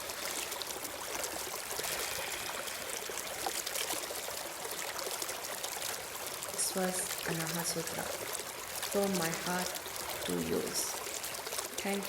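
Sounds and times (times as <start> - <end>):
waterfall cascading: 0.0 - 12.0.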